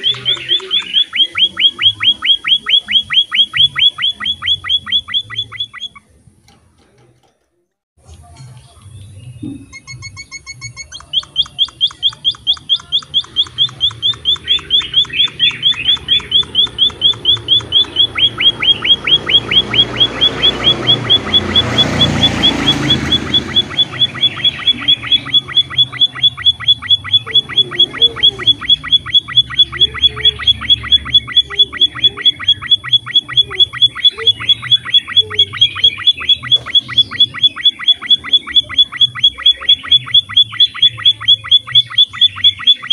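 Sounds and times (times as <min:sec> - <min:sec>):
finch chirping: 0:00.0 - 0:06.6, 0:08.8 - 0:42.9.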